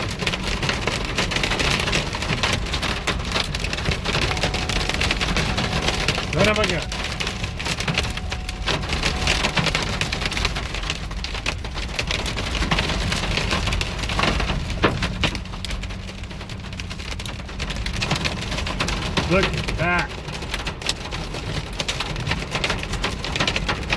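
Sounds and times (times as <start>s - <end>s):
hail and rain pelting a vehicle: 0.0s - 23.9s.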